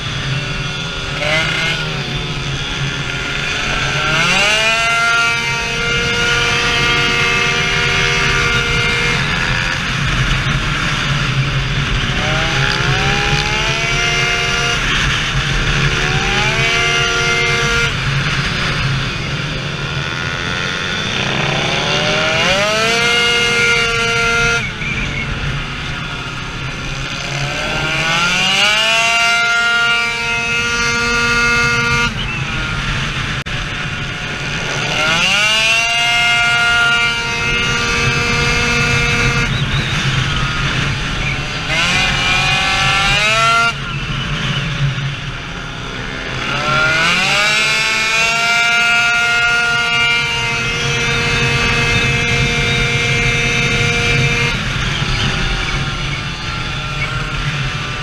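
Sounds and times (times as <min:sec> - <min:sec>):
scooter engine revving: 0:00.0 - 0:58.0.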